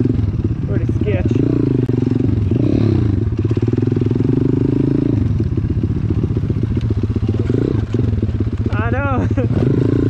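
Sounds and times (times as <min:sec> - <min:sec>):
pit bike engine under throttle: 0:00.0 - 0:10.0.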